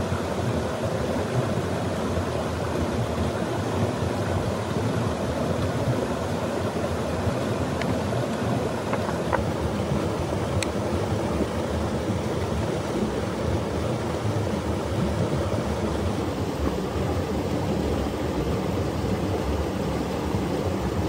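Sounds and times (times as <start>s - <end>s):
fast-flowing river rushing: 0.0s - 21.0s.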